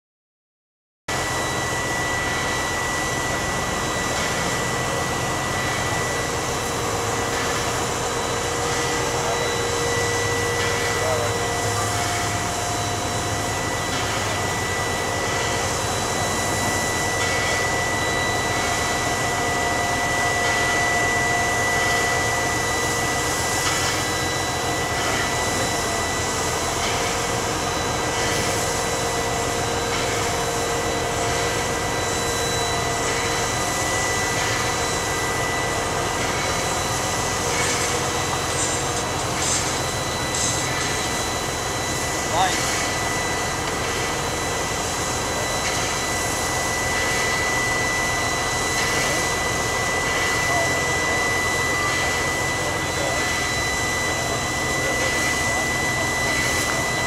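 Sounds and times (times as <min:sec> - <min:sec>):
hydraulic crane running: 0:01.1 - 0:57.0
steam locomotive hissing: 0:01.1 - 0:57.0.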